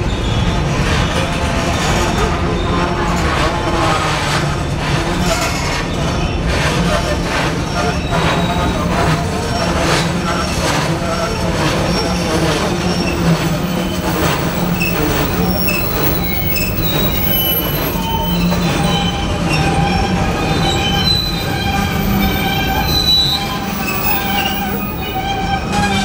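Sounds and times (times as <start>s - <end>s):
train cars rumbling: 0.0s - 26.0s
high wheel squeals: 5.2s - 26.0s.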